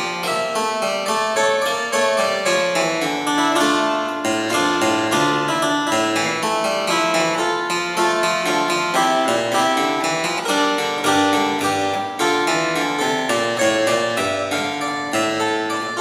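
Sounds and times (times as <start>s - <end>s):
harpsichord notes: 0.0s - 16.0s.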